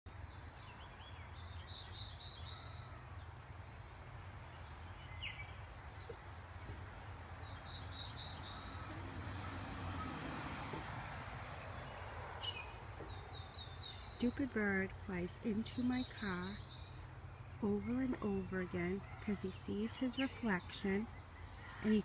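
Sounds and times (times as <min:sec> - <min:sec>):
bird chirping: 0:00.1 - 0:22.0
low background hum: 0:00.1 - 0:22.0.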